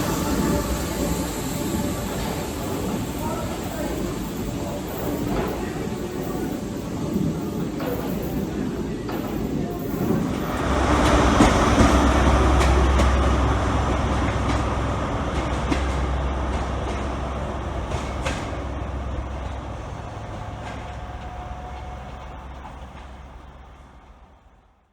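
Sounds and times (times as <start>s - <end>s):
train wheels rumbling: 0.0s - 24.7s
electric train hum: 0.0s - 24.9s.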